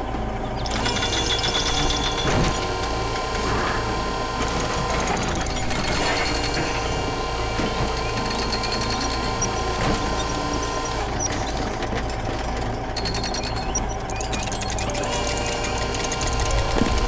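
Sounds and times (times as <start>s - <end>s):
construction machinery engine drone: 0.0s - 17.0s
fast mechanical clatter: 0.0s - 17.0s.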